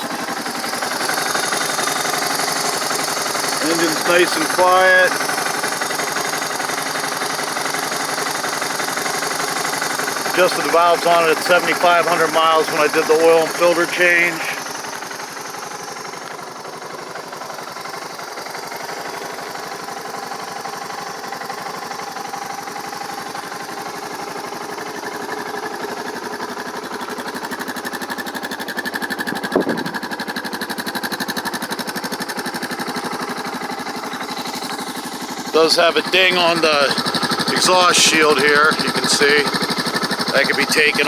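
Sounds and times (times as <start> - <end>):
motorcycle engine idling: 0.0 - 41.0.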